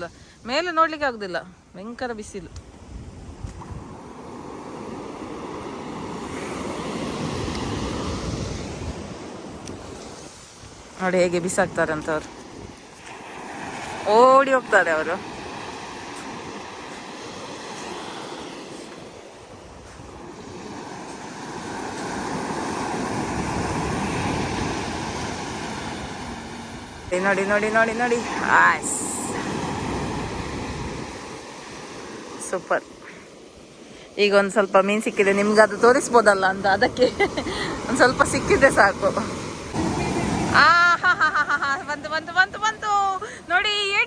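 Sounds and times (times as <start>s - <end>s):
sea wave washing up: 3.6s - 44.0s.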